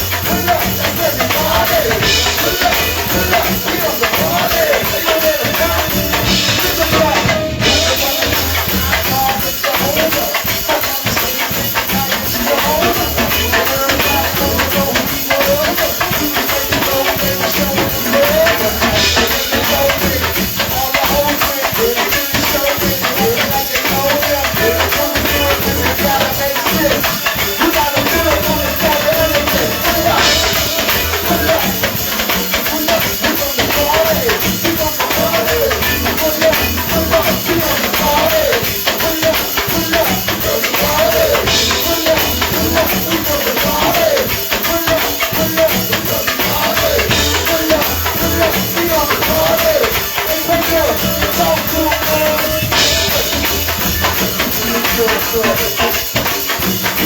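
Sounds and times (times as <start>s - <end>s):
band playing: 0.0s - 57.0s
shaker or tambourine: 0.0s - 57.0s.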